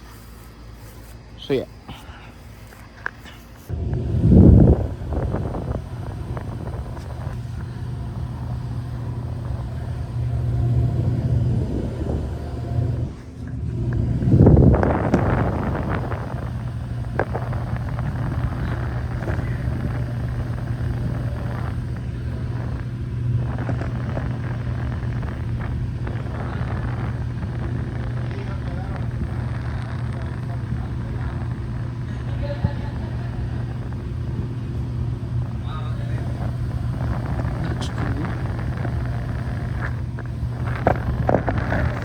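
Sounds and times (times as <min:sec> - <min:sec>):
air conditioner unit humming: 0:00.0 - 0:42.0.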